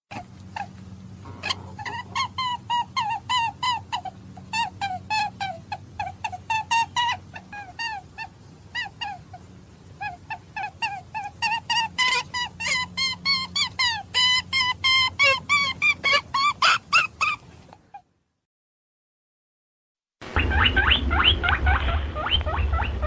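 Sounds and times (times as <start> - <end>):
high-pitched animal calls: 0.1 - 18.1, 20.3 - 23.0.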